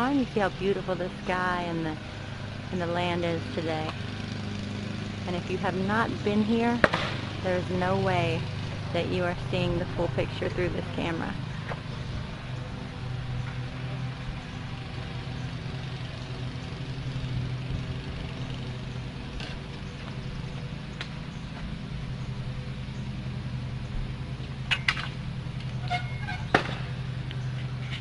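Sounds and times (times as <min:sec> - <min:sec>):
lawnmower engine running: 0:00.0 - 0:28.0.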